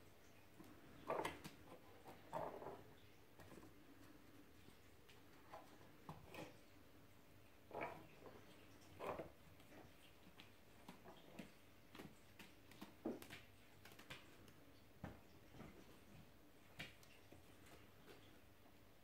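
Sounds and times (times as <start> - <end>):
cats pawing on tiled floor: 0.0 - 19.0.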